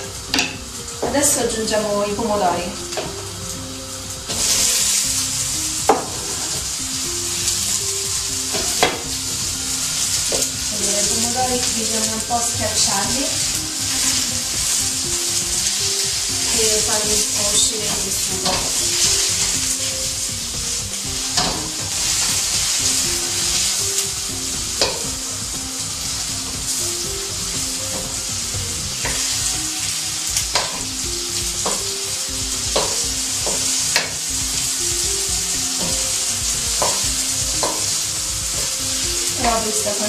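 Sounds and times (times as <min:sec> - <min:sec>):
spatula knocking and scraping wok: 0:00.0 - 0:01.2, 0:02.9 - 0:03.3, 0:04.2 - 0:11.8, 0:12.4 - 0:39.6
hot oil sizzling: 0:00.0 - 0:40.0.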